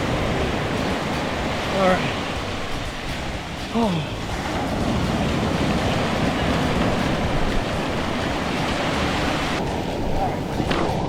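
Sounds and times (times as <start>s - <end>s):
surf washing on beach: 0.0s - 11.0s
wind rumbling on microphone: 0.0s - 11.0s.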